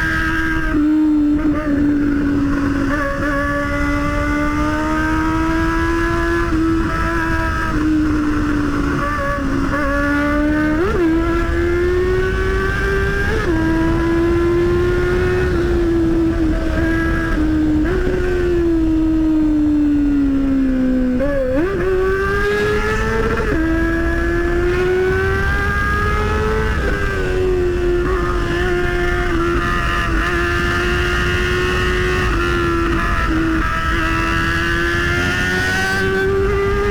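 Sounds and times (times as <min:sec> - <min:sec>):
motorcycle engine running: 0:00.0 - 0:36.9
wind rumble on microphone: 0:00.0 - 0:36.9.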